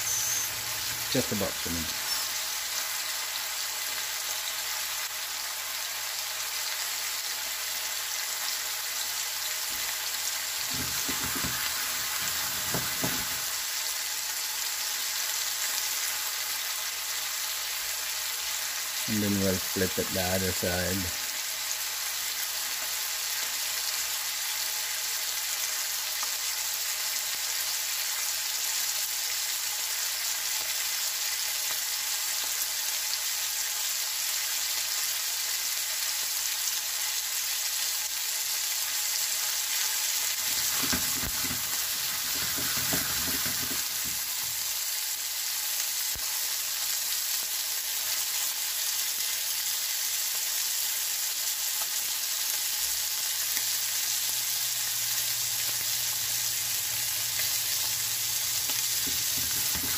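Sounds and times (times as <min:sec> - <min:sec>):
steaks sizzling in hot oil: 0:00.0 - 0:59.9.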